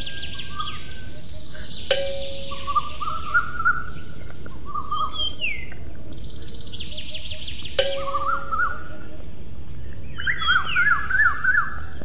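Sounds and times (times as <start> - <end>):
falling whistled bird call: 0.0 - 5.7, 6.8 - 9.2, 10.1 - 12.0
birds chirping and warbling: 0.0 - 12.0
steady background hiss: 0.0 - 12.0.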